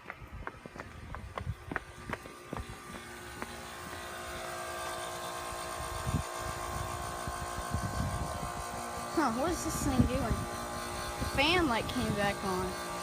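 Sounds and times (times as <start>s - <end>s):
heat pump fan hum: 0.0s - 13.0s.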